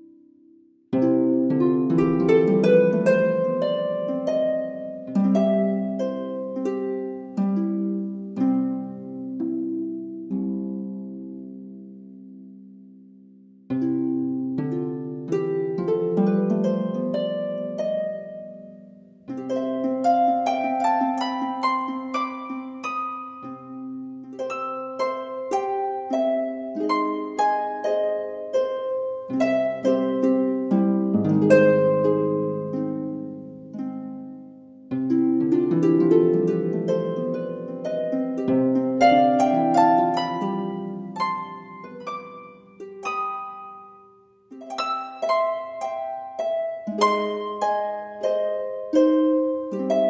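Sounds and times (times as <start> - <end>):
plucked string music: 0.9 - 12.9, 13.7 - 50.0.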